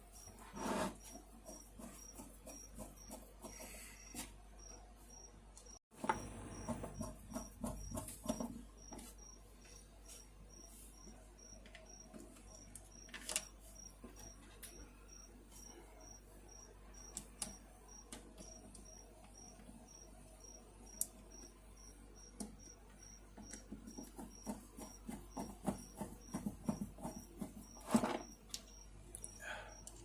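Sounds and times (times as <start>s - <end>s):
cricket chirping: 1.0s - 30.0s.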